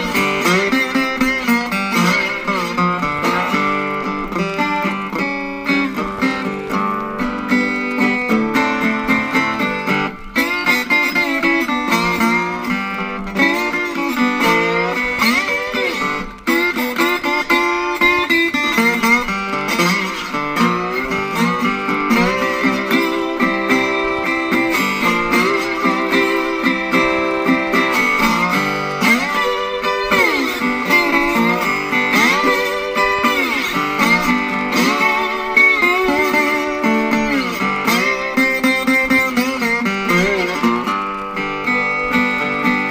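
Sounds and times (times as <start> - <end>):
blues slide guitar: 0.0 - 42.9.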